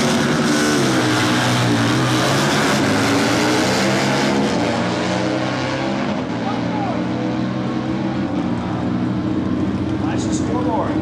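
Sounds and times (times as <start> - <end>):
motorcycles accelerating hard: 0.0 - 11.0.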